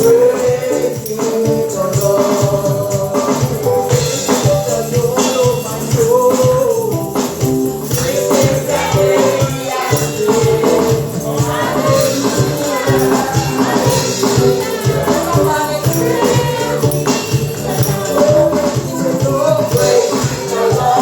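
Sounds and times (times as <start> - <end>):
church band playing: 0.0 - 21.0
tambourine shaking: 0.0 - 21.0.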